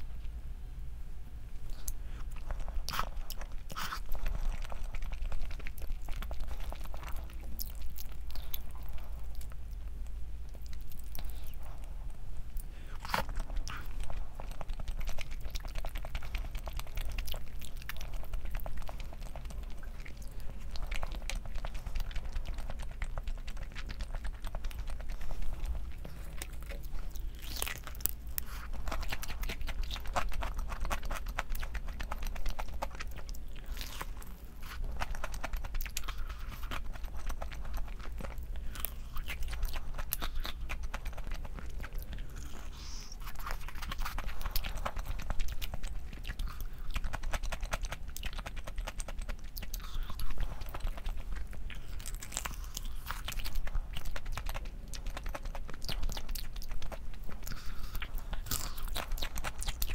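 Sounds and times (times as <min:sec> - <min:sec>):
steady low hum: 0:00.0 - 0:59.9
person chewing crunchy food: 0:01.6 - 0:59.9.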